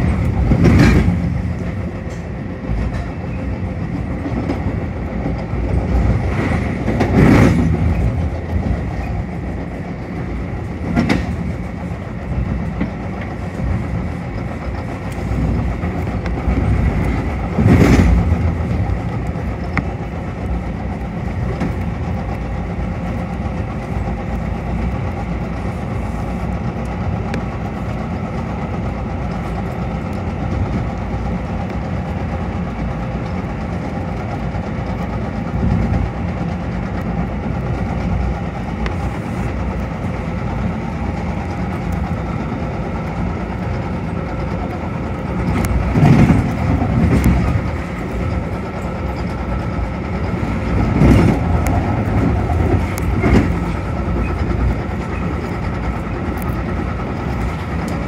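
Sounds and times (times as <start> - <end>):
train wheel clacks: 0.0 - 58.0
train wheels rumbling on rail: 0.0 - 58.0.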